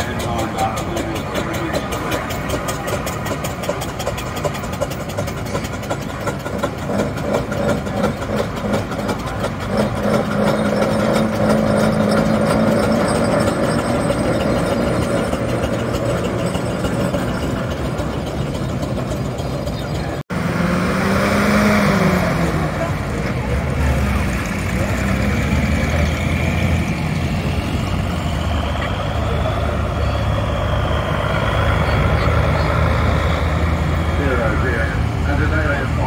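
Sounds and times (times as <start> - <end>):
engine pitch rising and falling: 0.0 - 36.0
vehicle engine running: 0.0 - 36.0.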